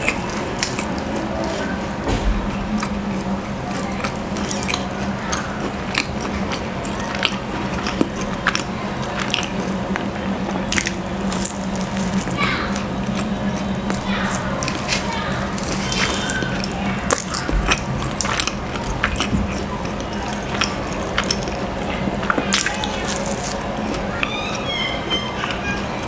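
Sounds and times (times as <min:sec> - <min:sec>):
chewing flaky pastry: 0:00.0 - 0:26.0
crust crackling: 0:00.0 - 0:26.0.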